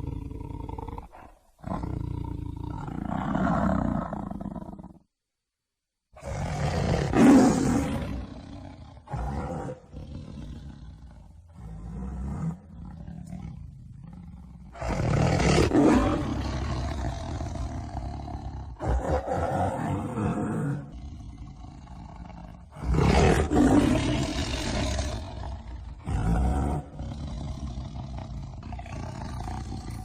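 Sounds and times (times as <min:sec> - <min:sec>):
tiger roaring: 0:00.0 - 0:05.0, 0:06.2 - 0:30.0.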